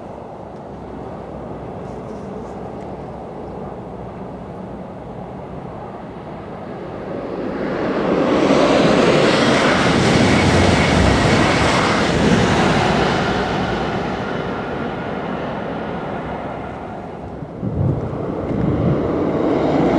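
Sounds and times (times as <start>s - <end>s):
high-speed train passing: 0.0s - 19.9s.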